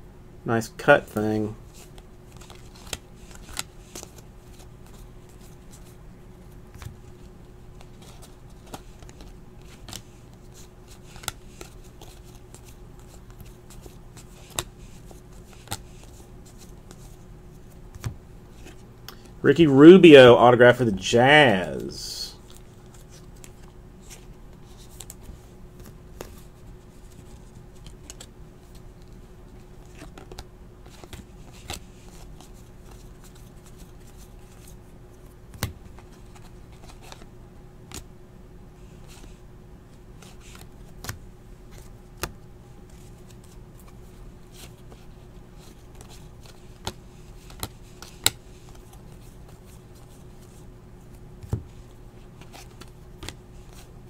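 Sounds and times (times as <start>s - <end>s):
steady low hum: 0.0s - 54.0s
cards rustling and sliding: 0.8s - 19.6s, 21.4s - 37.3s, 37.9s - 38.1s, 38.8s - 39.4s, 40.2s - 54.0s.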